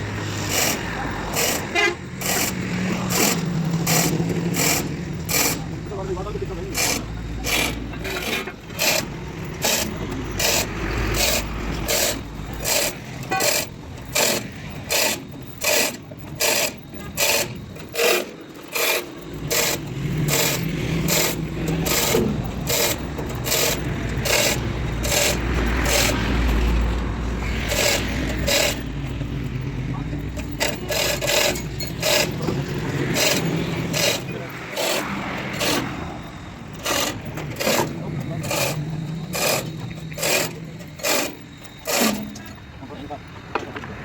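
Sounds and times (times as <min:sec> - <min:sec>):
hand tool rasping metal: 0:00.0 - 0:42.7.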